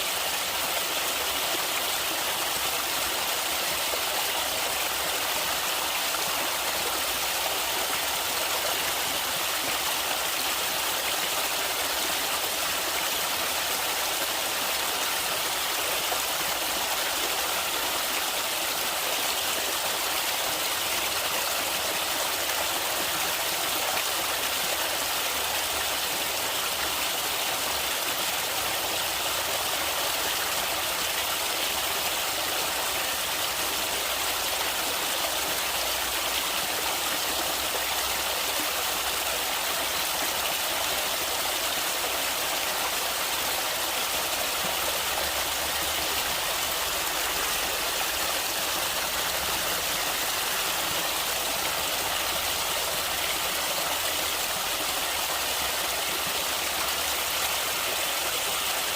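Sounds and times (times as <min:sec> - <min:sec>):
water flowing over rocks: 0:00.0 - 0:58.9.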